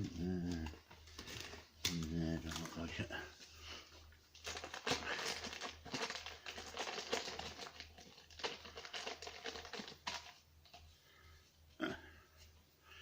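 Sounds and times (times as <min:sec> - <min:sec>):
posters rustling and crinkling: 0:00.0 - 0:10.9.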